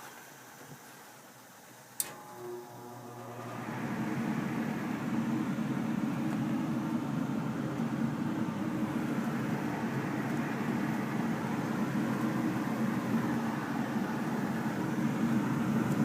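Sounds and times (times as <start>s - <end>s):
gas furnace running: 1.8s - 16.0s.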